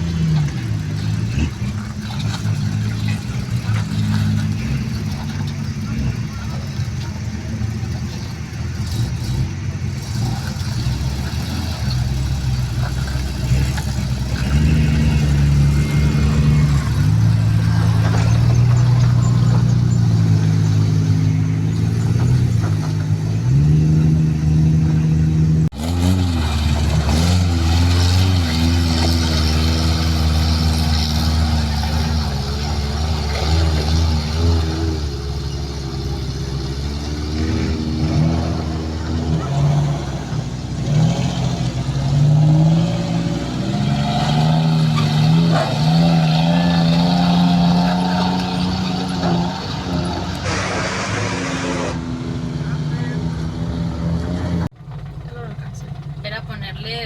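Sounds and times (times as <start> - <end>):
off-road engine revving: 0.0 - 57.0.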